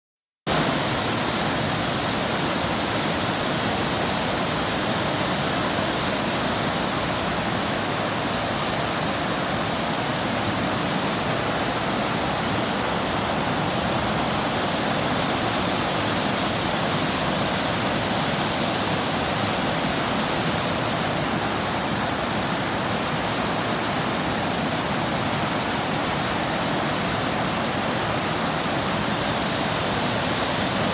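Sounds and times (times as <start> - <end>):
waterfall rushing: 0.5 - 30.9.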